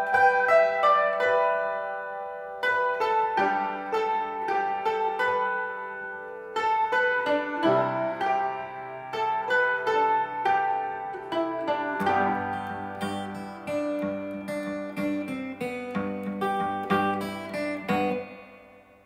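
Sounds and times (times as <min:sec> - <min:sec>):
plucked string instrument melody: 0:00.0 - 0:19.0.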